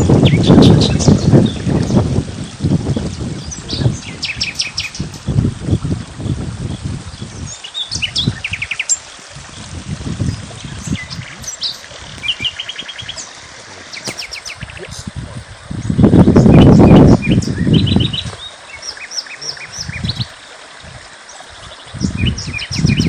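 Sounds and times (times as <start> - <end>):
small birds chirping: 0.0 - 5.4, 6.2 - 20.5, 21.1 - 23.0.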